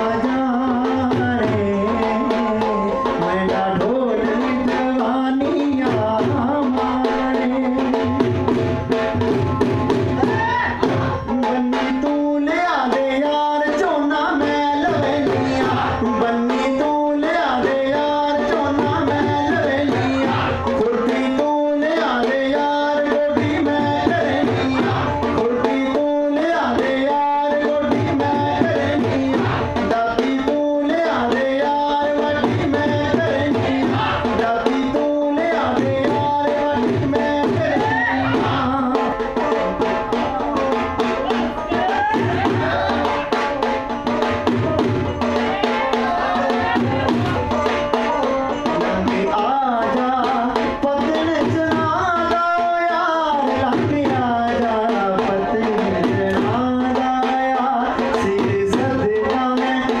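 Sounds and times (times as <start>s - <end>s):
dhol drum beating: 0.0s - 60.0s.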